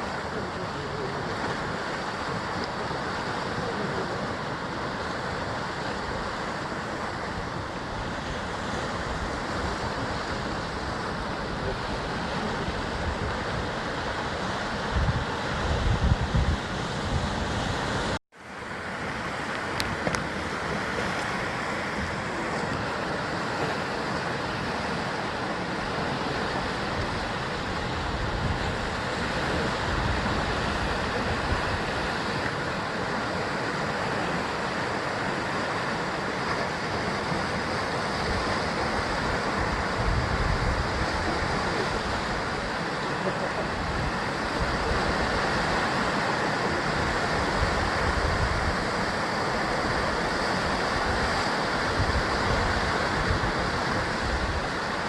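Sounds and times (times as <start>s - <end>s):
wind rumble on microphone: 0.0s - 18.2s, 19.1s - 55.0s
waves washing on rocky coast: 0.0s - 55.0s.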